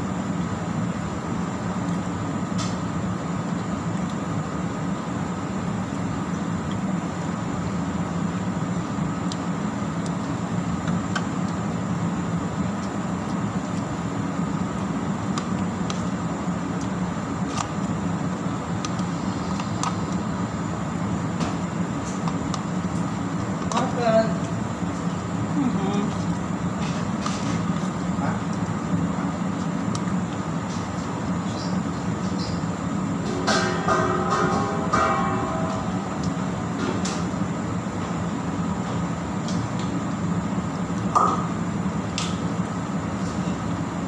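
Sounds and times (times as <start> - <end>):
kitchen machinery humming: 0.0 - 44.0.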